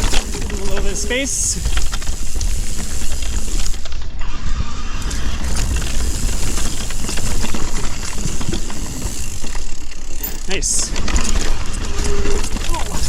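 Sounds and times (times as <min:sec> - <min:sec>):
bike rattling over rocks: 0:00.0 - 0:13.0.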